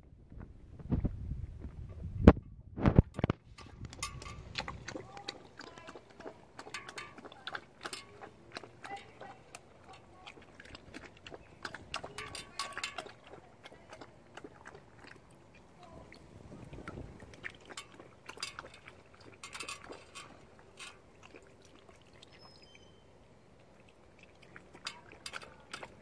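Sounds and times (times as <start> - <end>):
puppy lapping water: 2.8 - 26.0.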